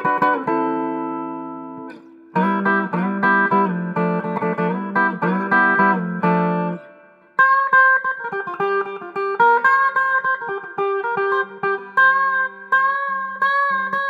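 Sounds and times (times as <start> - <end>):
electric guitar chords: 0.0 - 14.0
picked guitar single-note line: 0.0 - 14.0.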